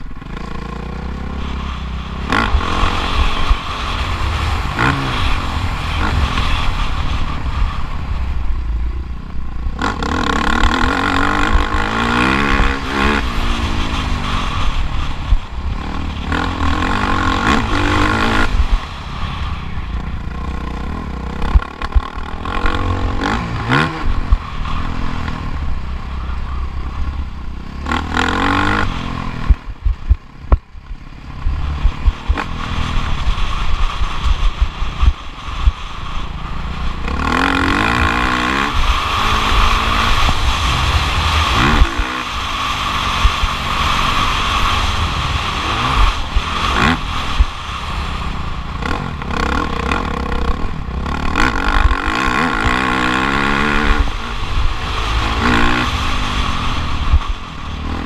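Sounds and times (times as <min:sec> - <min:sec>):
motocross engine revving: 0:00.0 - 0:07.8, 0:09.4 - 0:19.2, 0:19.8 - 0:30.5, 0:31.1 - 0:58.0.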